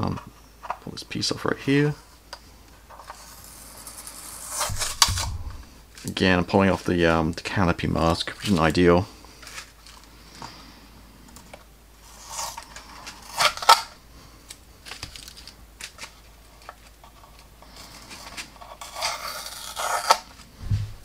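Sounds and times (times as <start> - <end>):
masking tape rustling: 2.9 - 10.4, 11.4 - 21.0.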